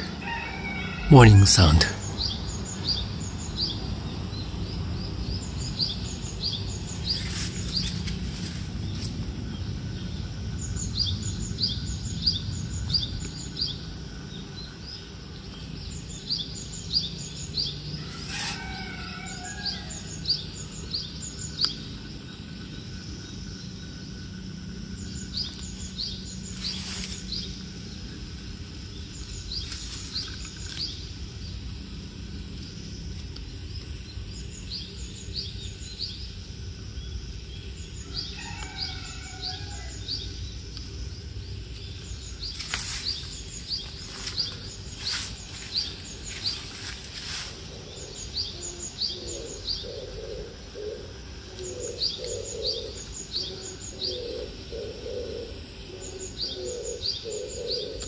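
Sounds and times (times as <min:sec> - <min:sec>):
small birds chirping: 0:01.0 - 0:58.0
low ambient hum: 0:01.7 - 0:38.4, 0:39.9 - 0:58.0.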